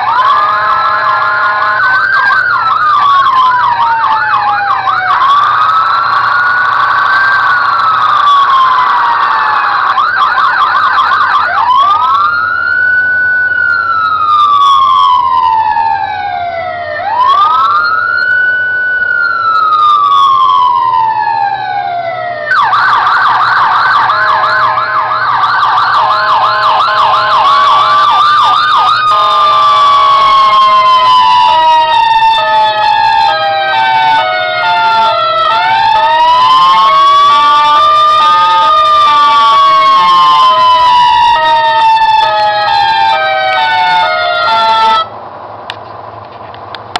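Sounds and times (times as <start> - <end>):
police siren wailing and yelping: 0.0 - 45.2.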